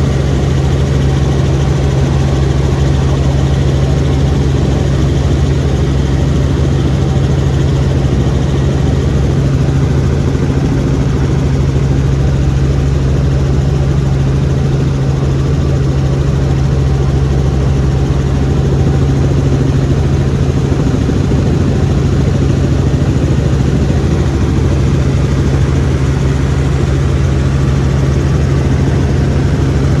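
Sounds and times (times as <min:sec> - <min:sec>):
helicopter engine and rotor: 0:00.0 - 0:30.0.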